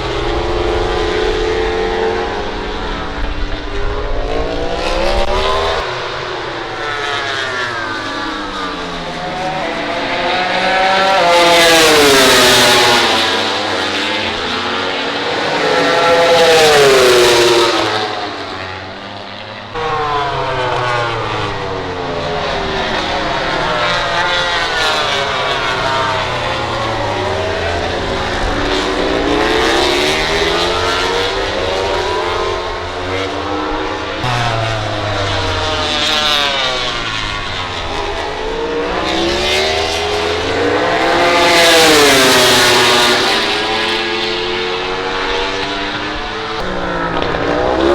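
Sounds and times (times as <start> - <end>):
racing motorcycle engines: 0.0 - 47.9.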